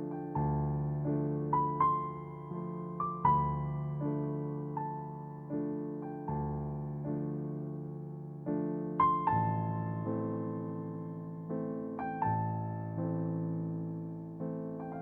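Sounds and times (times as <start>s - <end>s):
soft piano playing slow chords: 0.0s - 15.0s.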